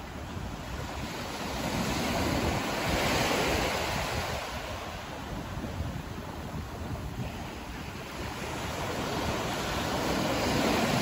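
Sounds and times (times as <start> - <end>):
surf breaking on sand: 0.0 - 11.0
wind buffeting microphone: 0.0 - 11.0.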